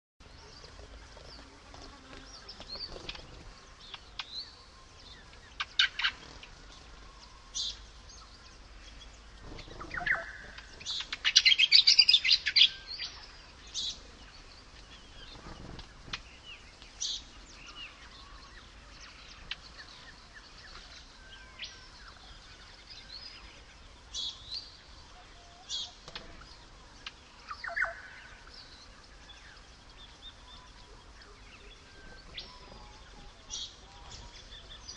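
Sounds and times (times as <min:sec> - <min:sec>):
birds chirping: 0:00.2 - 0:34.9.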